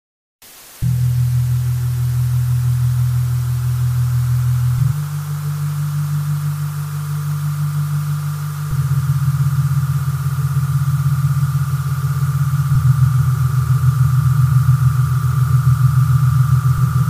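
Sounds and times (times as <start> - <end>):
static-like hiss: 0.4 - 17.0
low electronic drone: 0.8 - 17.0.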